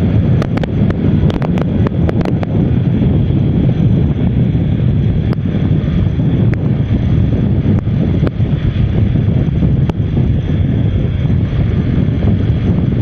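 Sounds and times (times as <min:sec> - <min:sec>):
motorcycle engine running: 0:00.0 - 0:13.0
road noise: 0:00.0 - 0:13.0
wind buffeting microphone: 0:00.0 - 0:13.0.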